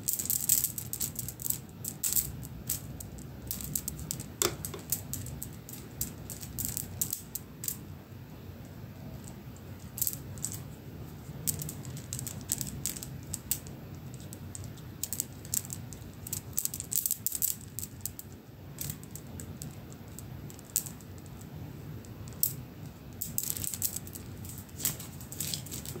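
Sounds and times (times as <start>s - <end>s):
beads clicking and rattling: 0.0s - 7.8s, 9.7s - 10.7s, 11.3s - 21.4s, 23.2s - 26.0s.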